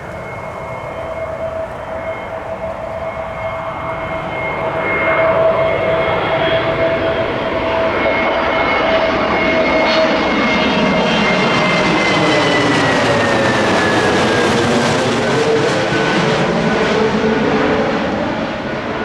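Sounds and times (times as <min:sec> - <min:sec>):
jet airliner engine whine: 0:00.0 - 0:19.0.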